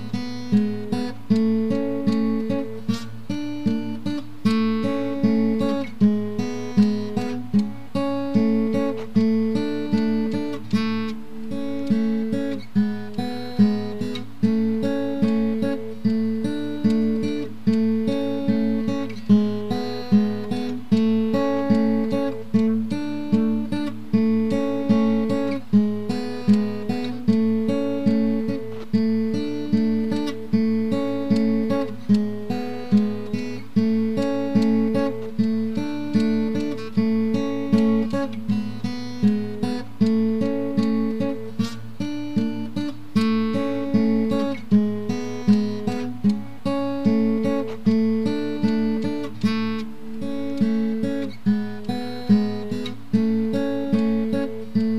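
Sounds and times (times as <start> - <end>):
acoustic guitar strumming: 0.0 - 54.9.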